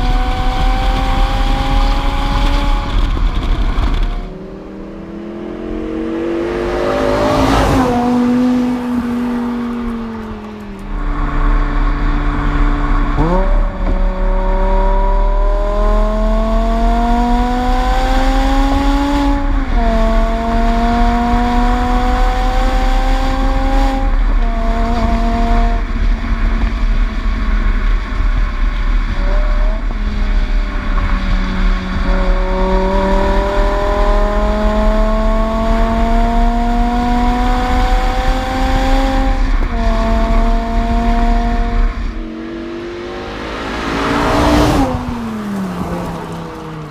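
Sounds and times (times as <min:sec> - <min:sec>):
car engine accelerating through gears: 0:00.0 - 0:46.9
road rumble: 0:00.0 - 0:46.9.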